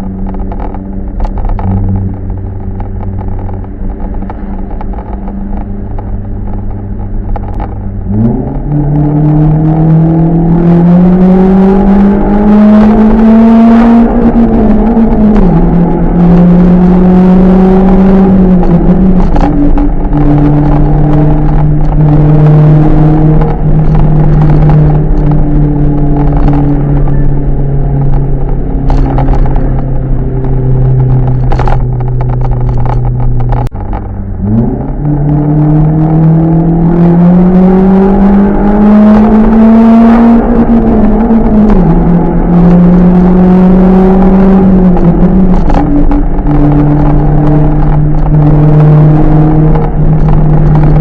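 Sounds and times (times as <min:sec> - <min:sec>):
car exhaust drone: 0:00.0 - 0:51.0.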